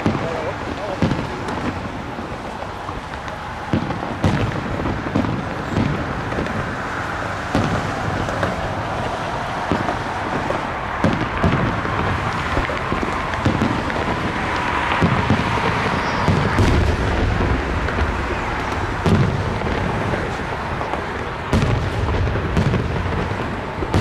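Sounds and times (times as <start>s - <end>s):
fireworks booming: 0.0s - 24.0s
fireworks crackle: 0.0s - 24.0s
steady background noise: 0.0s - 24.0s.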